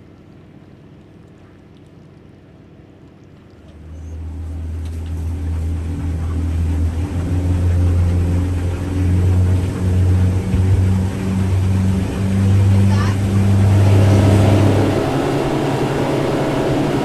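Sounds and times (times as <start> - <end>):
motorboat engine droning: 0.0 - 17.0.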